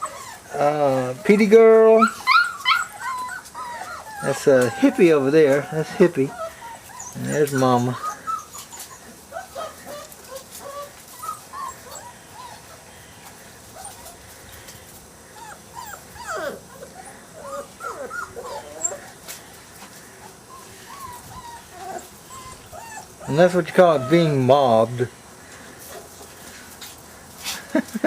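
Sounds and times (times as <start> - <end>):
puppies whimpering and whining: 0.0 - 25.1.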